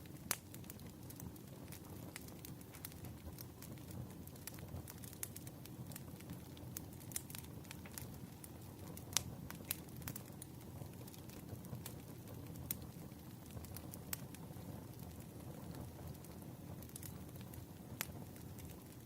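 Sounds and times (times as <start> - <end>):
burning wood crackling and popping: 0.0 - 19.0
campfire rumble: 0.0 - 19.0.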